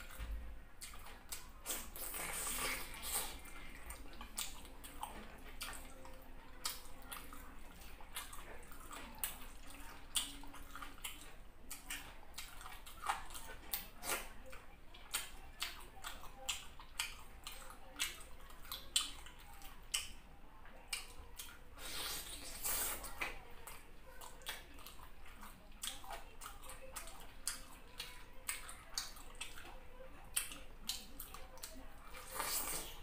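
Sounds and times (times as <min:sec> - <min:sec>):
chewing: 0:00.0 - 0:33.0.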